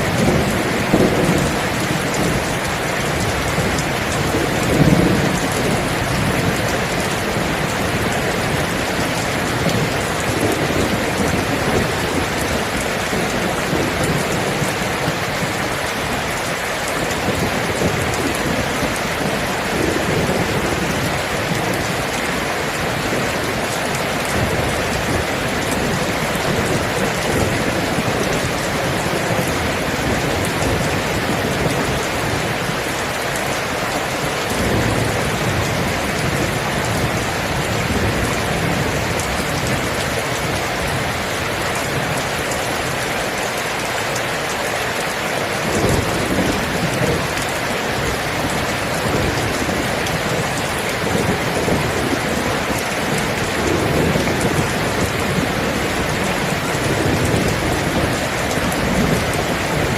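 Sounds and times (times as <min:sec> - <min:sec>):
thunder rumbling: 0:00.0 - 0:43.0, 0:45.6 - 0:59.9
heavy rain falling: 0:00.0 - 0:59.9.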